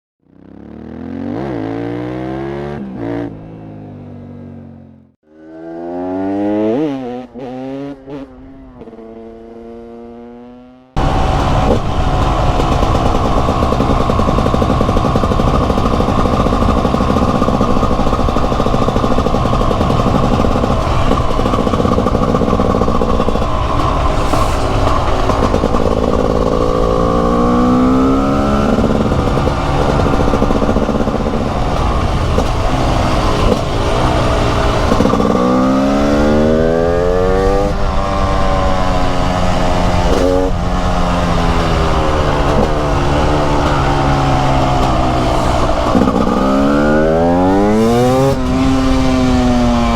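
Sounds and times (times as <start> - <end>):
motorcycle engine revving: 0.2 - 49.9.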